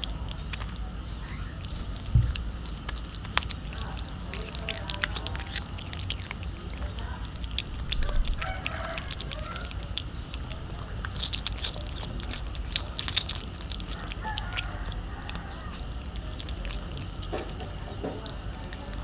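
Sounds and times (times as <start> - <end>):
cat chewing fish: 0.0 - 19.0.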